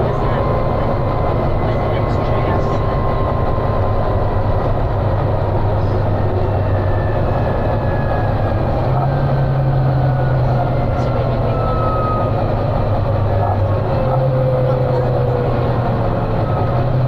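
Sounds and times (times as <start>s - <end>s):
bus engine running under load: 0.0s - 17.0s.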